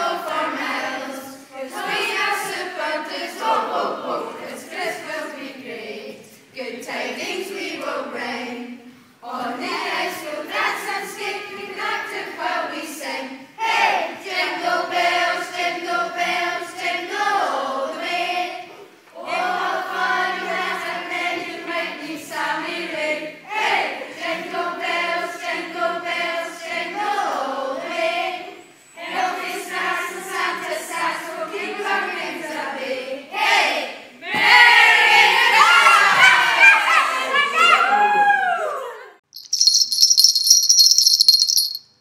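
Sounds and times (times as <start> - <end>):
group of voices singing: 0.0 - 35.6.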